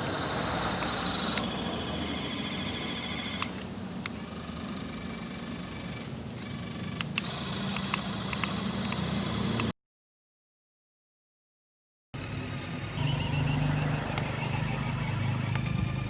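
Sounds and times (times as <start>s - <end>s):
small electric motors whining: 0.0s - 9.7s, 12.2s - 16.0s.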